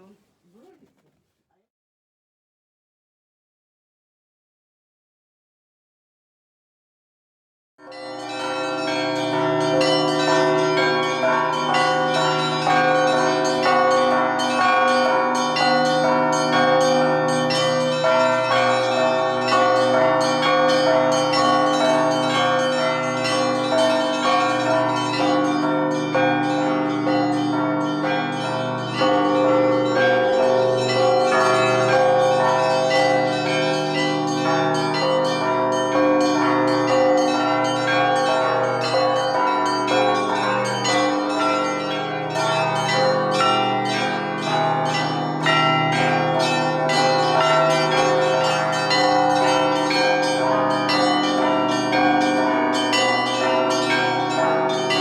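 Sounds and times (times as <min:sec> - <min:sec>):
larger bells ringing: 0:07.9 - 0:55.0.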